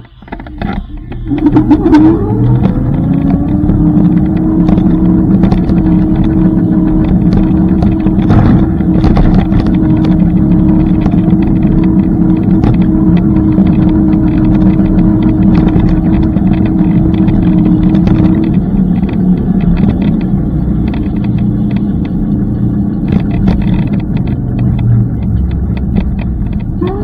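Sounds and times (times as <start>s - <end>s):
scooter riding rumble: 0.0s - 27.0s
small rattles and clicks: 0.0s - 27.0s
steady hum: 0.0s - 27.0s.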